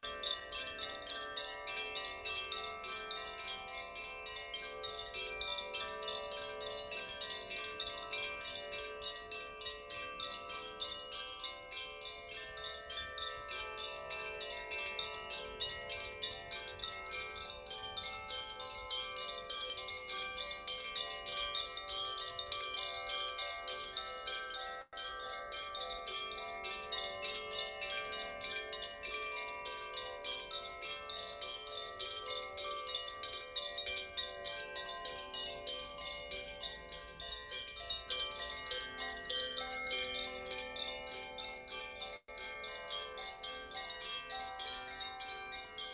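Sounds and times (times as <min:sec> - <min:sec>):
chimes tinkling: 0:00.0 - 0:45.9.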